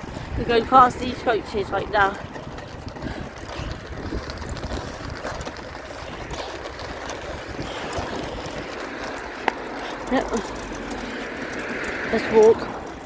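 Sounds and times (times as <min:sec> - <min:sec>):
scooter rumbling: 0:00.0 - 0:13.0
wind buffeting microphone: 0:00.0 - 0:13.0.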